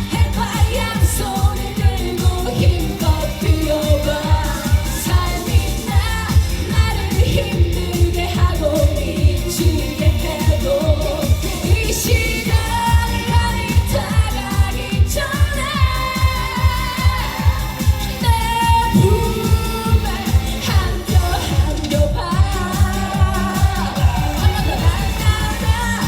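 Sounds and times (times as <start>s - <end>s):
pop dance music over loudspeakers: 0.0s - 26.0s
woman singing: 0.0s - 26.0s.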